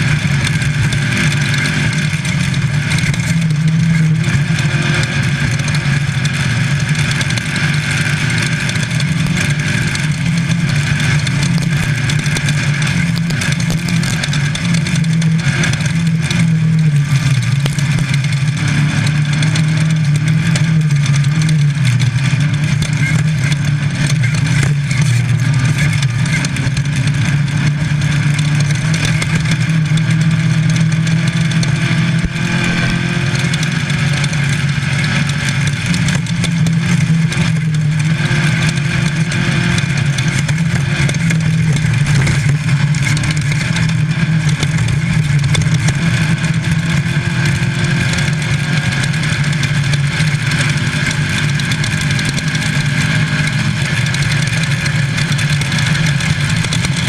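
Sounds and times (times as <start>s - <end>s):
car engine running hard: 0.0s - 57.0s
off-road driving noise: 0.0s - 57.0s.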